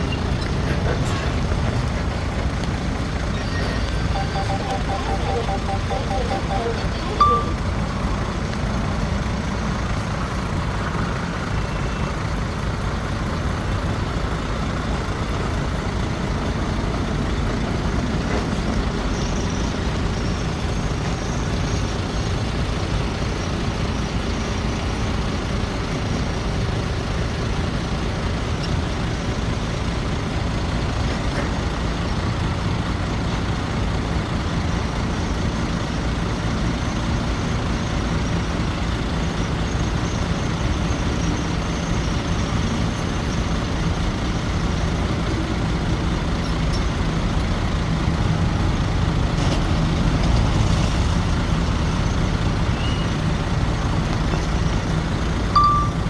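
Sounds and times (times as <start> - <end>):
heavy diesel machinery droning: 0.0 - 49.1.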